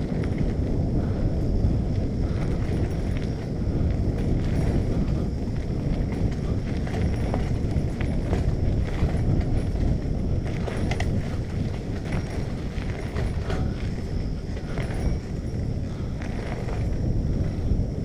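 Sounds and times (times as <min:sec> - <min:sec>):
bike rattling clicks and knocks: 0:00.0 - 0:18.0
wind buffeting microphone: 0:00.0 - 0:18.0.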